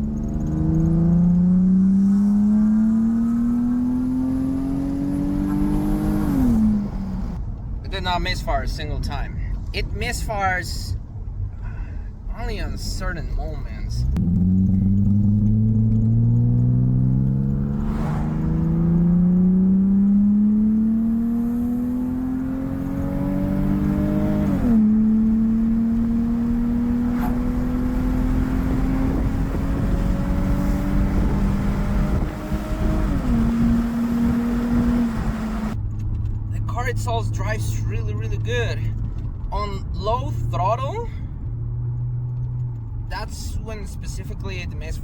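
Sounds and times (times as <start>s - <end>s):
car engine accelerating: 0.0s - 7.8s, 12.9s - 45.0s.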